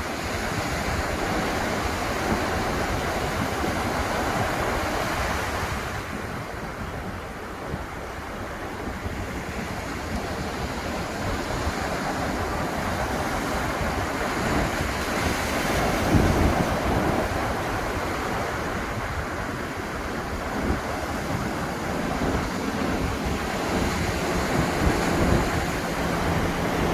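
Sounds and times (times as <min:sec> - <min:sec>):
ocean surf washing on beach: 0:00.0 - 0:26.9
wind buffeting microphone: 0:00.0 - 0:26.9.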